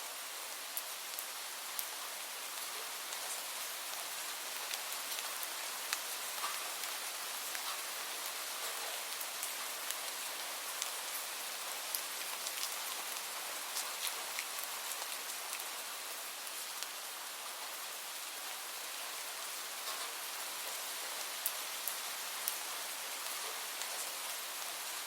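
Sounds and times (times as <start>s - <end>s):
light rain hiss: 0.0s - 25.0s
raindrops ticking on surface: 0.6s - 17.8s, 18.5s - 25.0s.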